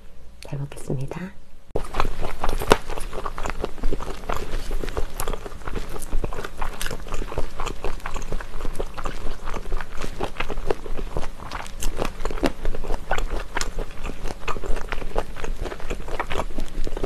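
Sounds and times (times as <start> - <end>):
wet sticky chewing and crunching: 1.8 - 17.0.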